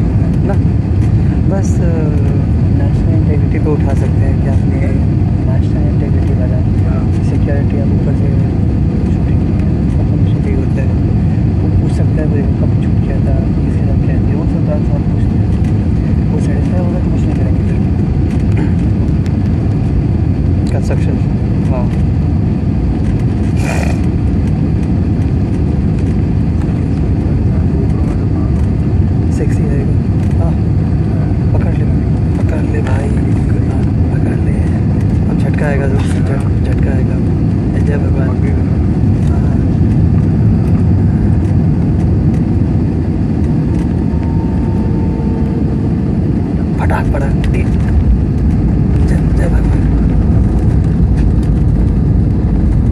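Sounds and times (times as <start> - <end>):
aircraft cabin rumble: 0.0 - 52.9
faint steady whine: 0.0 - 52.9.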